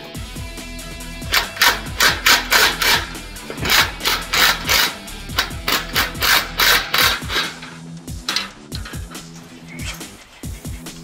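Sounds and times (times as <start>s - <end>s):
background music with bass beat: 0.0s - 11.0s.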